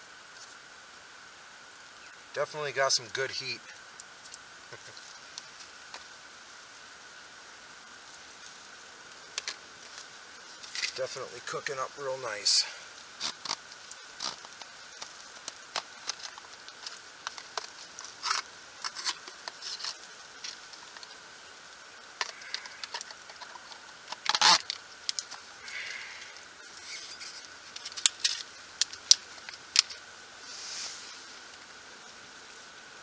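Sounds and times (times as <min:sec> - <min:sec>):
meat sizzling: 0:00.2 - 0:31.8
fire crackling and popping: 0:02.0 - 0:31.8.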